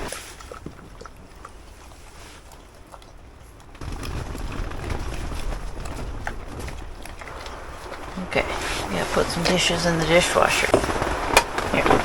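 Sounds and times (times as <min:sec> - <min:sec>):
wind gusting on microphone: 0:00.0 - 0:12.0.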